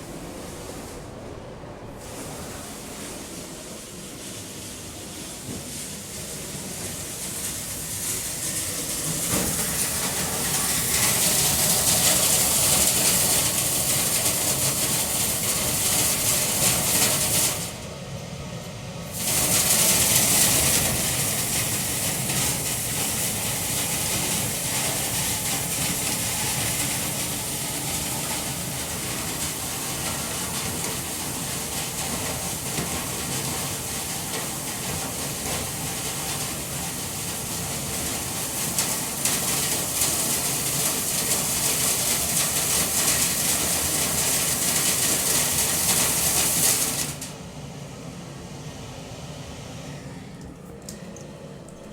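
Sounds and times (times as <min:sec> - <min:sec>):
duct-cleaning equipment air rush: 0:00.0 - 0:51.6.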